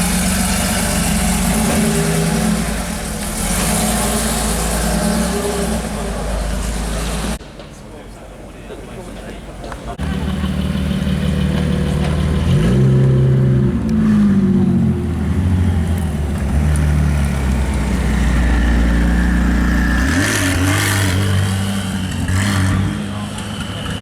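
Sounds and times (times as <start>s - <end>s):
car engine revving: 0.0s - 7.4s, 10.0s - 24.0s.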